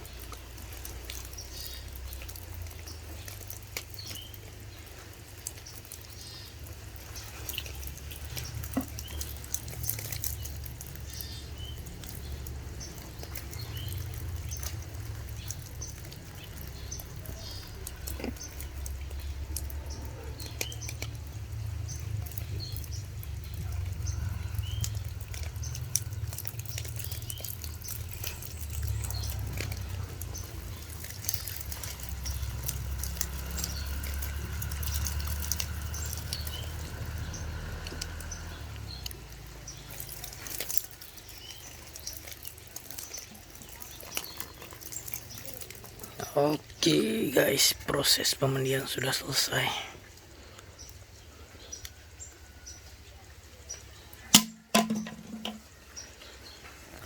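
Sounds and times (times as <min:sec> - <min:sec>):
water dripping and splashing: 0:00.0 - 0:57.0.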